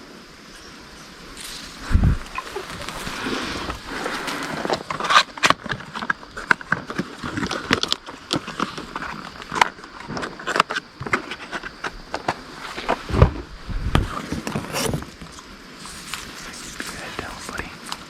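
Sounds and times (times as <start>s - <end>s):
close rustling and crackling: 0.5s - 18.0s.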